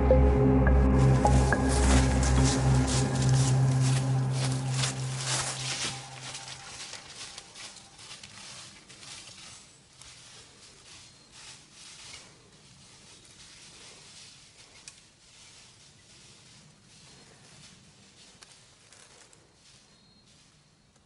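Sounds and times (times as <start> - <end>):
running footsteps on dry leaves: 0.9 - 20.9.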